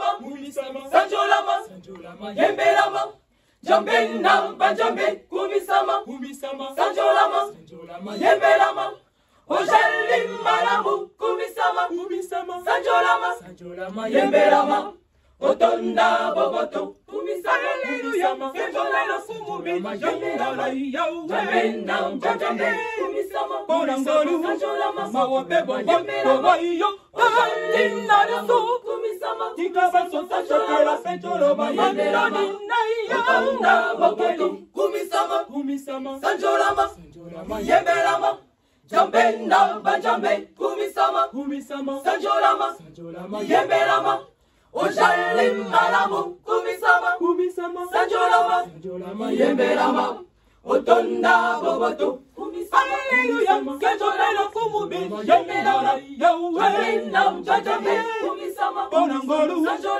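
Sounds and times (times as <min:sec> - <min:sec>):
women's choir singing a cappella: 0:00.0 - 0:59.9.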